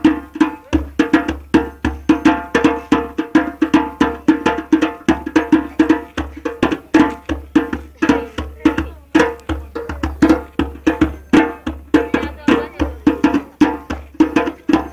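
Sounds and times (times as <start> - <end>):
hand drums in fast dance rhythm: 0.0 - 14.9.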